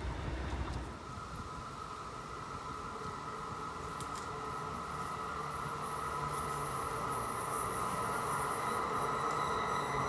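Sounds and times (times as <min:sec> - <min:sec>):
distant train high-pitched hum: 0:00.0 - 0:10.0.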